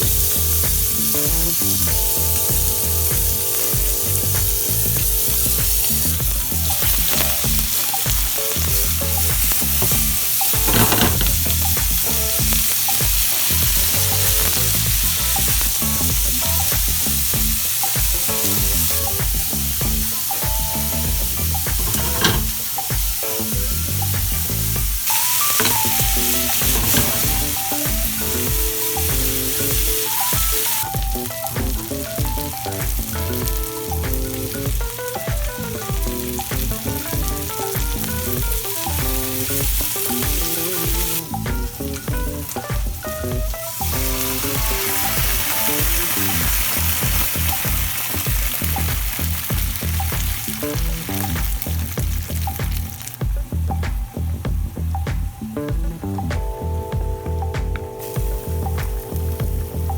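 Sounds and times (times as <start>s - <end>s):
food sizzling in a pot: 0.0s - 56.8s, 57.8s - 59.9s.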